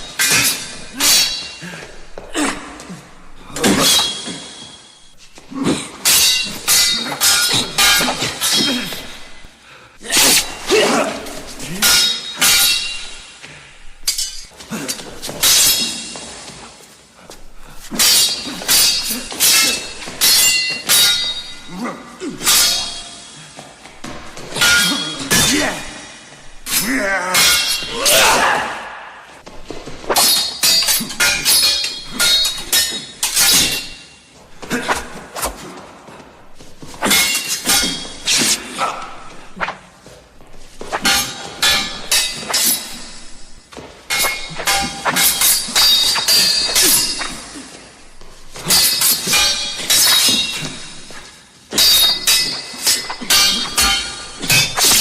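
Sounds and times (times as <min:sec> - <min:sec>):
swords clashing and ringing: 0:00.0 - 0:55.0.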